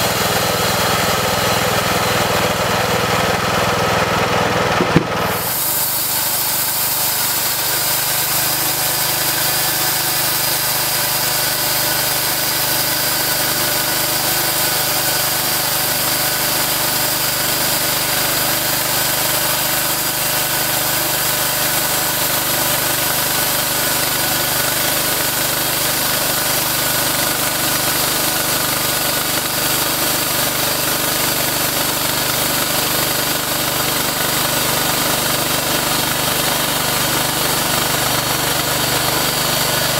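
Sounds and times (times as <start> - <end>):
bandsaw sawmill engine running: 0.0 - 39.9.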